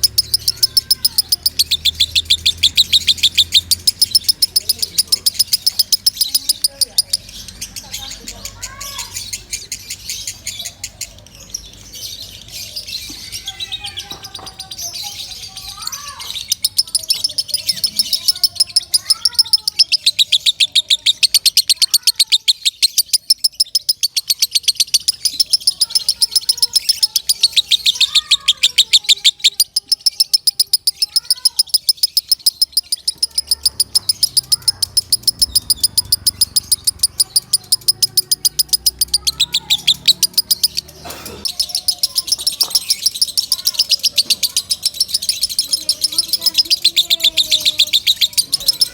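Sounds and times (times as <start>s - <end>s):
bird chattering trill: 0.0s - 48.9s.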